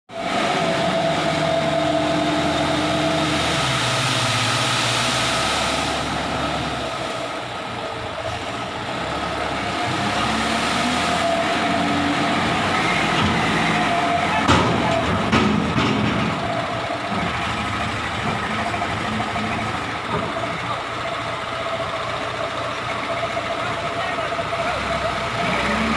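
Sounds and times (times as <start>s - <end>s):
dump truck engine running: 0.1s - 25.9s.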